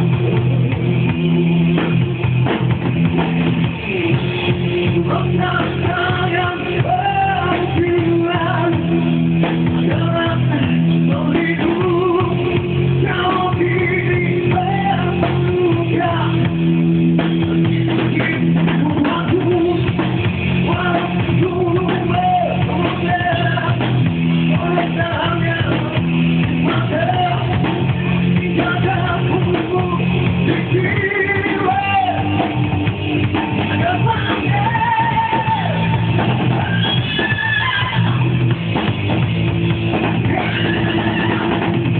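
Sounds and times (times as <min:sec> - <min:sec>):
drum kit: 0:00.0 - 0:41.9
electric guitar: 0:00.0 - 0:41.9
person singing: 0:03.8 - 0:16.6, 0:17.4 - 0:32.5, 0:33.6 - 0:38.5, 0:40.2 - 0:41.8.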